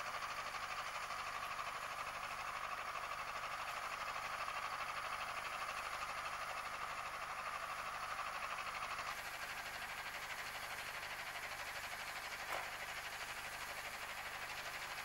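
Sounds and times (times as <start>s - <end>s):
snowcat engine and tracks: 0.0s - 15.0s.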